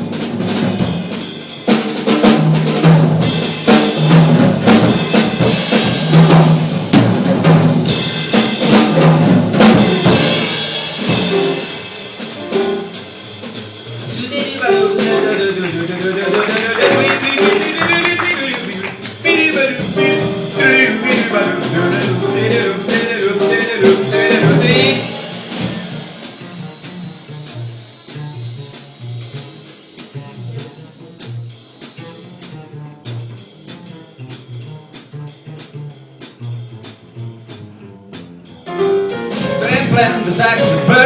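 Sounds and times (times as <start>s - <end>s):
jazz lead line: 0.0s - 41.0s.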